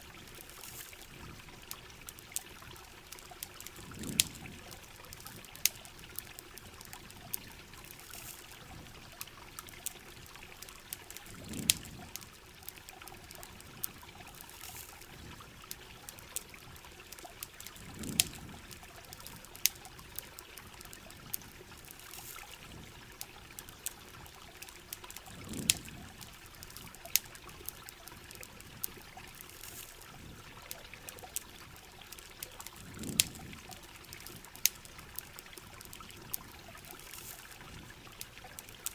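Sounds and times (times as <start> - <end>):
campfire crackling: 0.0 - 38.9
water trickling and pouring: 0.0 - 38.9.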